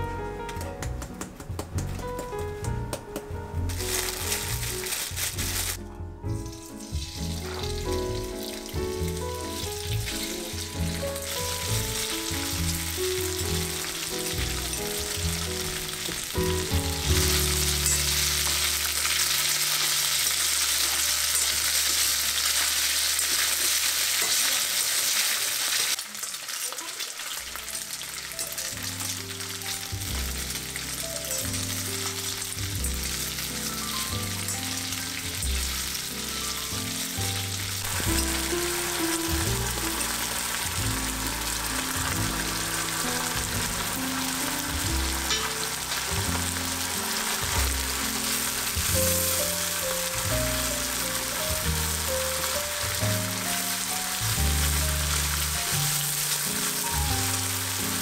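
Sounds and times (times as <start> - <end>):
food sizzling in hot oil: 3.6 - 58.0.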